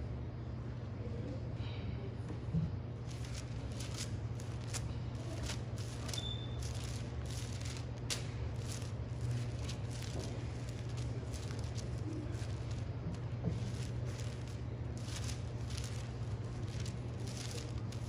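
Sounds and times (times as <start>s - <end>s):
steady low hum: 0.0s - 18.0s
paper pages rustling: 3.1s - 18.0s.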